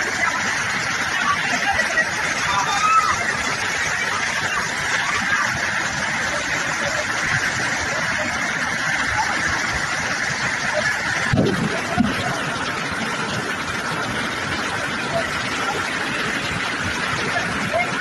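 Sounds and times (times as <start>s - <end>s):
heavy rain: 0.0s - 18.0s
running floodwater: 0.0s - 18.0s.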